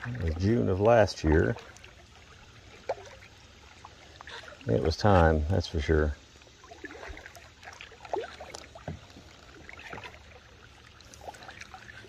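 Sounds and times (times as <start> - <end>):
paddle splashes: 0.0 - 12.0
water dripping off paddle: 0.0 - 12.0.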